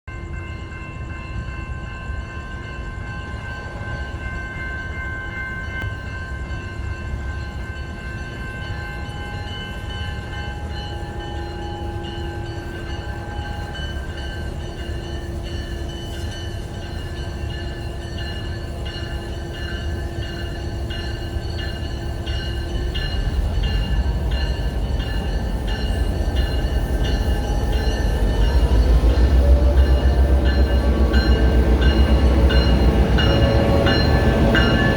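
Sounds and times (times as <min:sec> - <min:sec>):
diesel locomotive engine rumble: 0:00.1 - 0:34.9
steady high tones: 0:00.3 - 0:34.9.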